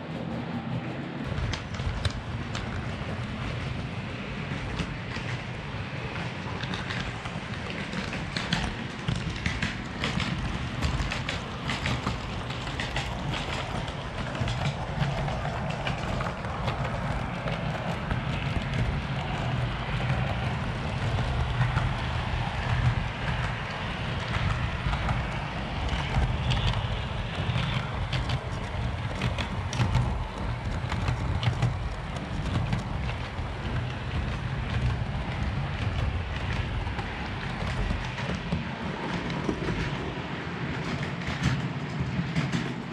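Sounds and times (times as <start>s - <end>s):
model train rumbling: 0.0s - 42.9s
wheels clicking on rails: 0.0s - 42.9s.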